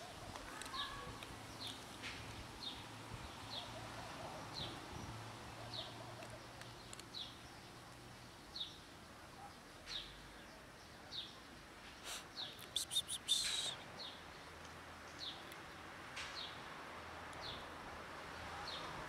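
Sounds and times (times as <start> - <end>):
bird chirping: 0.0 - 15.8
faint outdoor background: 0.0 - 19.0.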